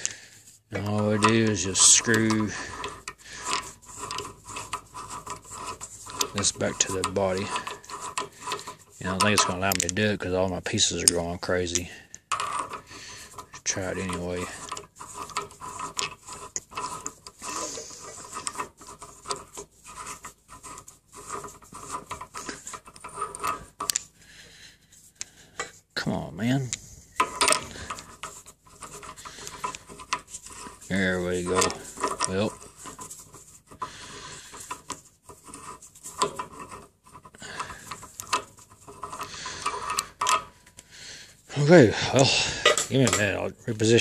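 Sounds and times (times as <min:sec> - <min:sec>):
small metal clicks: 0:00.0 - 0:10.2, 0:10.8 - 0:24.2, 0:26.7 - 0:40.9
metal threads rubbing and scraping: 0:00.0 - 0:44.0.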